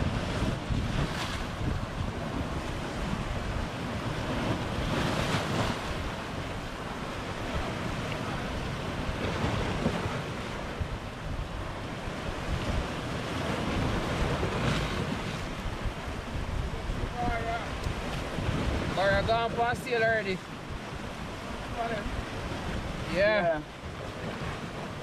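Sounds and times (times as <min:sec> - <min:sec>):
surf breaking on rocky shore: 0:00.0 - 0:25.0
wind buffeting microphone: 0:00.0 - 0:25.0.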